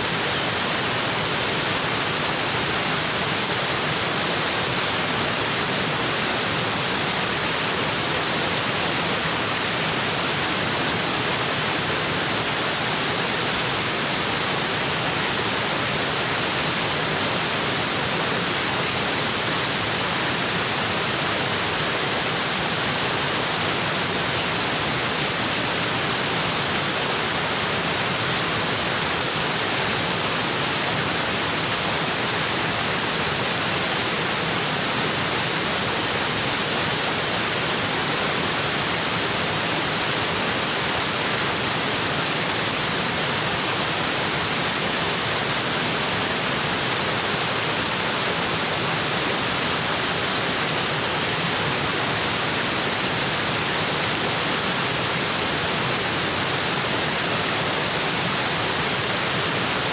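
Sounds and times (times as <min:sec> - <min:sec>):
waterfall onto rocks: 0:00.0 - 0:59.9.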